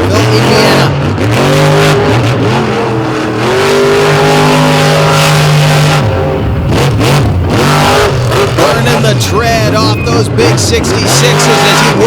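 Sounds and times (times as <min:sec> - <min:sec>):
monster truck engine revving: 0:00.0 - 0:12.0
tires spinning on asphalt: 0:00.0 - 0:12.0.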